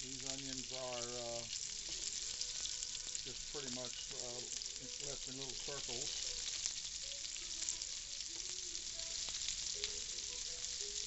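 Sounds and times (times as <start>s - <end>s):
onion rings sizzling in grease: 0.0s - 11.0s.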